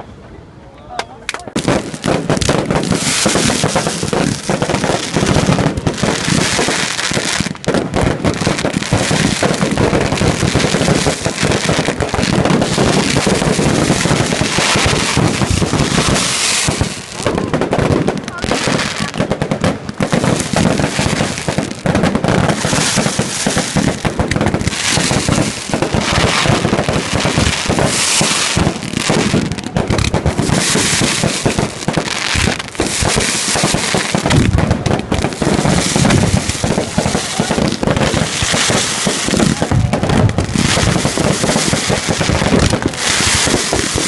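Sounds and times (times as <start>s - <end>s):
fireworks banging and crackling: 0.9s - 44.0s.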